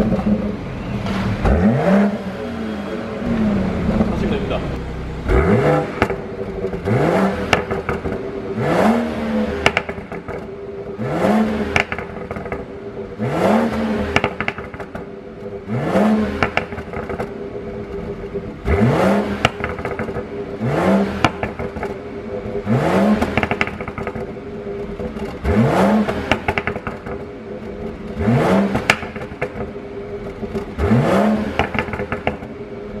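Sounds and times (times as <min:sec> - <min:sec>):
exhaust pops and crackles: 0:00.0 - 0:01.7, 0:03.2 - 0:12.8, 0:13.7 - 0:33.0
car engine revving: 0:00.0 - 0:33.0.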